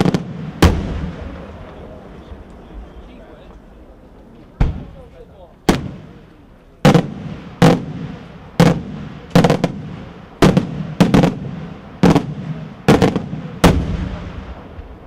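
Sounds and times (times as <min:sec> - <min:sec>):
fireworks bangs with echo: 0:00.0 - 0:03.6, 0:04.6 - 0:15.0.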